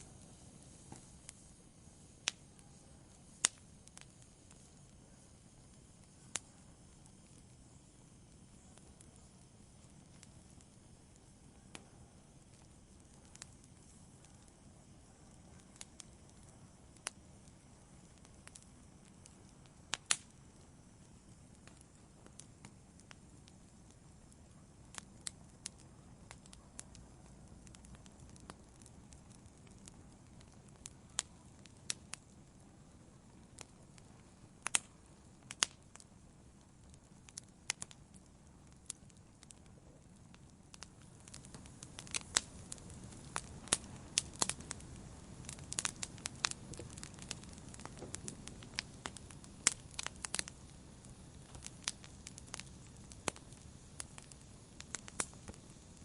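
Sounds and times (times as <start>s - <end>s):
campfire crackles and pops: 0.0s - 56.0s
low rumble of flame: 0.0s - 56.0s.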